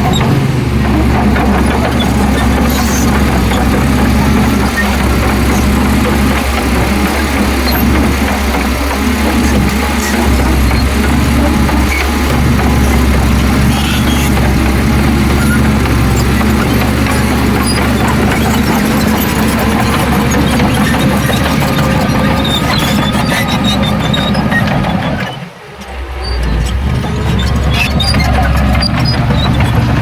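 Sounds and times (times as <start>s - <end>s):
heavy diesel machinery engine running: 0.0s - 30.0s.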